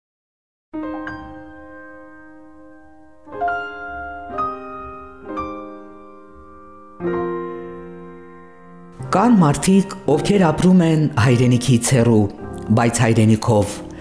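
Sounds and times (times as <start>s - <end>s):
slow piano chords: 0.8s - 14.0s.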